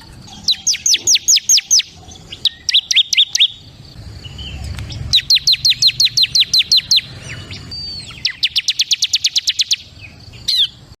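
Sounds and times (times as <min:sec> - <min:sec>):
bird singing sharp notes: 0:00.3 - 0:10.8.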